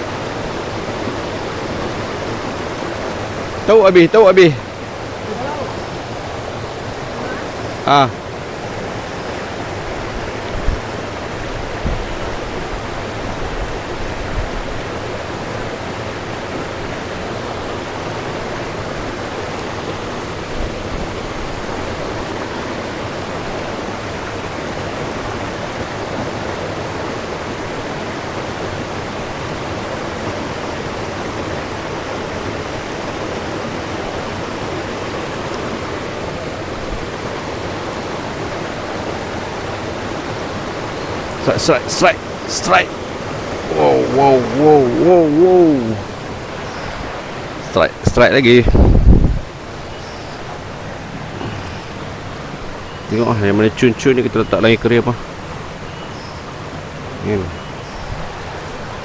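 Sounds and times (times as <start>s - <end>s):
stream rushing over rapids: 0.0s - 59.0s.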